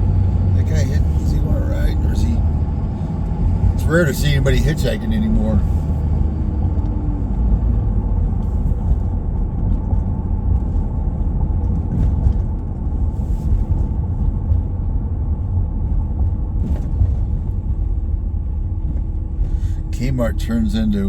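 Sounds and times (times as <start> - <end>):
car tyres and engine rumble: 0.0 - 21.0.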